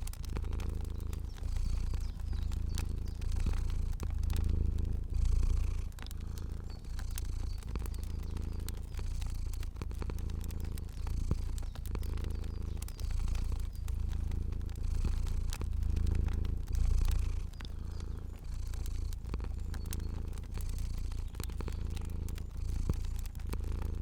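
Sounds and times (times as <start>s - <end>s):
cat purring: 0.0s - 24.0s
fire crackling: 0.0s - 24.0s.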